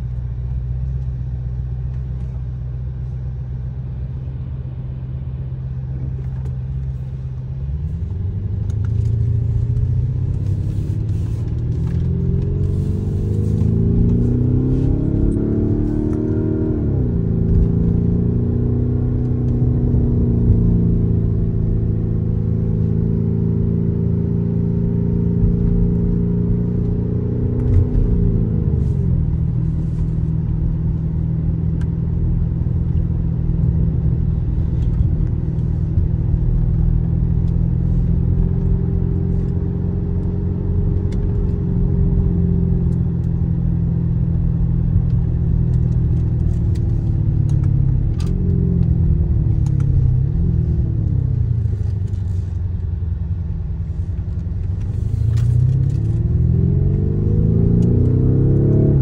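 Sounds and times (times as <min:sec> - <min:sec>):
car engine heard from cabin: 0:00.0 - 0:59.0.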